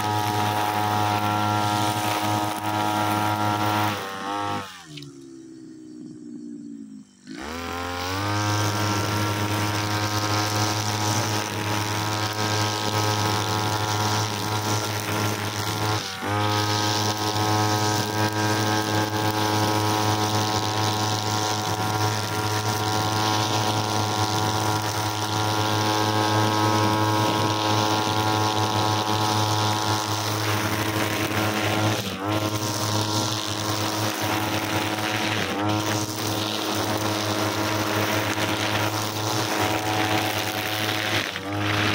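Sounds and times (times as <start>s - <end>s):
brushcutter engine revving: 0.0s - 5.2s, 7.2s - 41.9s.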